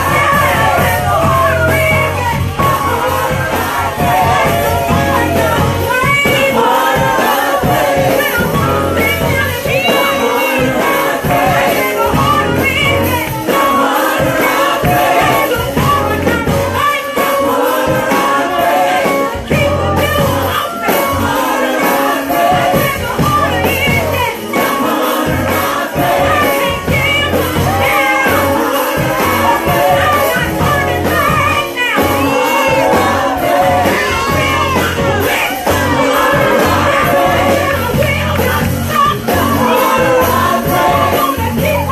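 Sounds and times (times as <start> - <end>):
band with bass pulse: 0.0 - 41.9
voices singing together: 0.0 - 41.9.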